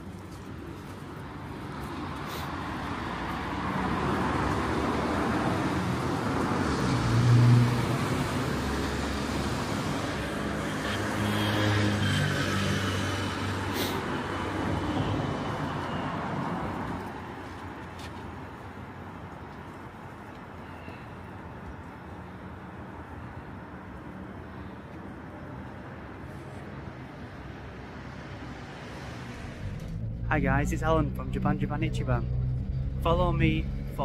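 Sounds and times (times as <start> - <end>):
traffic passing: 0.0 - 34.0.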